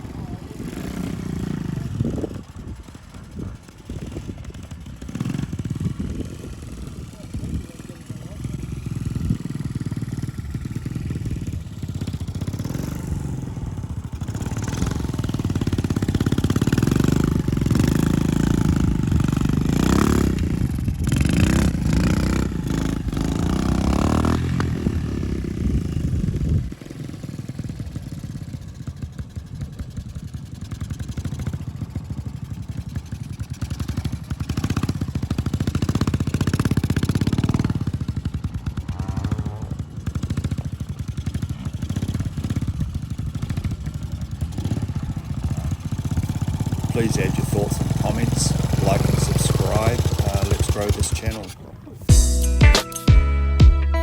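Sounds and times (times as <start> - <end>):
motorcycle engine running: 0.0 - 52.8.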